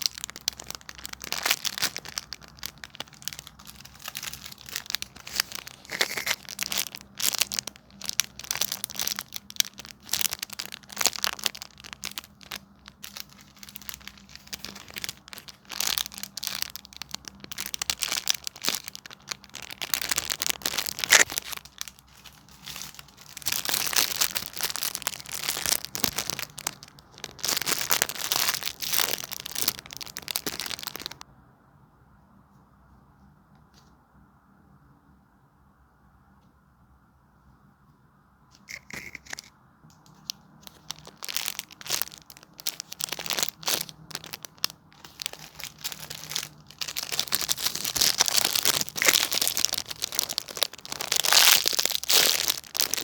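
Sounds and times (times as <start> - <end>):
squishy toys crinkling: 0.0 - 31.2, 38.6 - 53.0.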